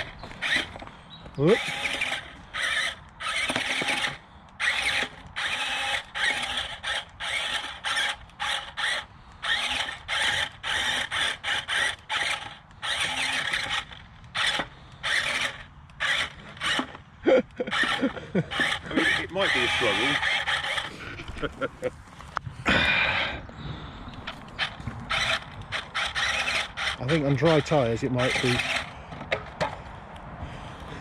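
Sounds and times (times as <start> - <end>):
toy electric motors whirring: 0.0 - 21.5, 24.2 - 29.6.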